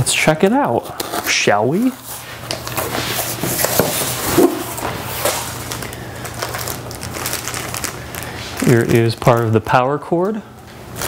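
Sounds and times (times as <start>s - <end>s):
packaging rustling and crunching: 0.8s - 9.8s.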